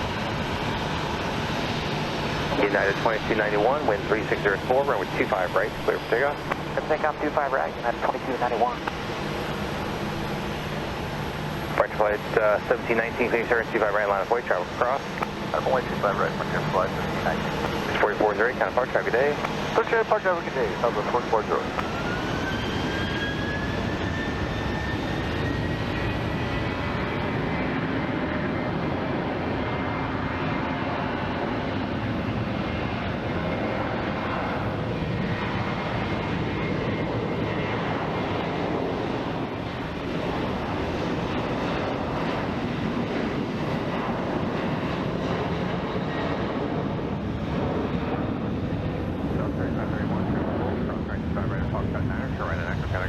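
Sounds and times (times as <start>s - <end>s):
jet engines roaring with high whine: 0.0s - 53.0s.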